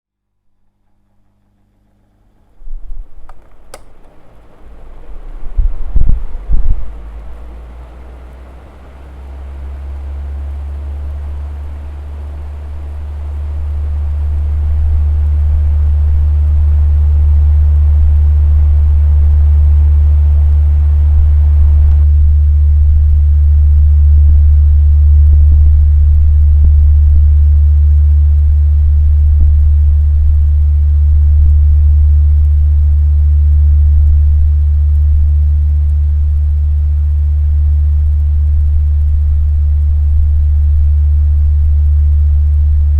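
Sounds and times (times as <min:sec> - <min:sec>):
electric fan humming: 0:00.2 - 0:42.9.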